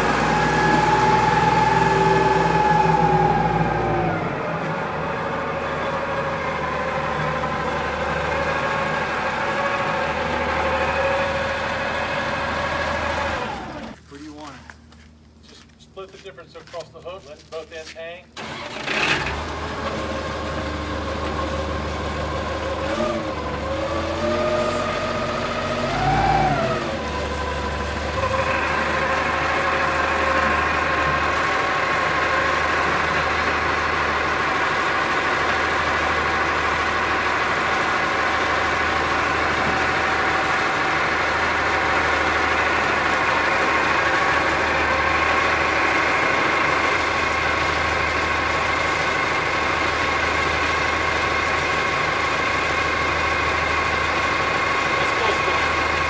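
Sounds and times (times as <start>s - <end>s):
engine revving and running: 0.0s - 14.0s, 18.4s - 56.0s.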